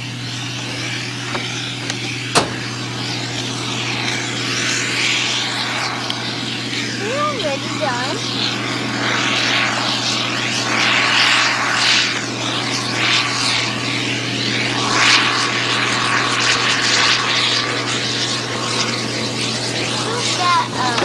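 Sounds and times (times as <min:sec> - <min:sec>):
farm machinery engine running: 0:00.0 - 0:21.0.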